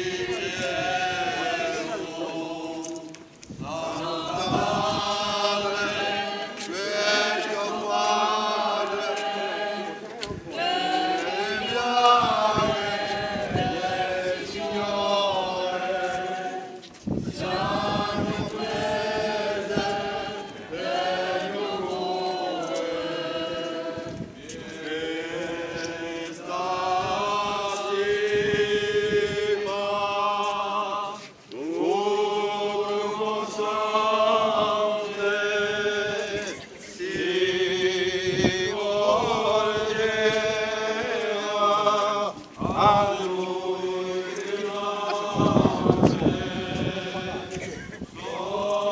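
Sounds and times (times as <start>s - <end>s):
group singing religious chant: 0.0s - 48.9s.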